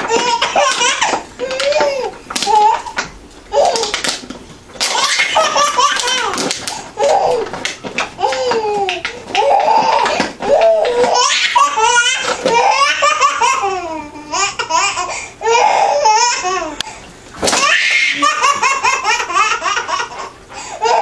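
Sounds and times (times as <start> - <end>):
baby laughing: 0.0 - 4.0, 4.8 - 7.6, 8.2 - 16.8, 17.6 - 21.0.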